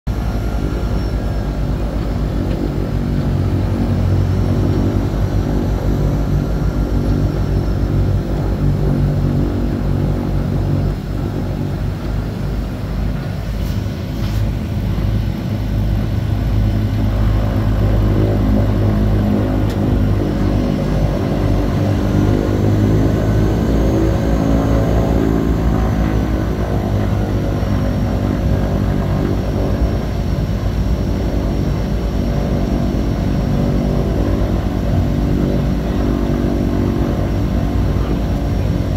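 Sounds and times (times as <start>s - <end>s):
propeller aircraft engine drone: 0.1s - 38.9s.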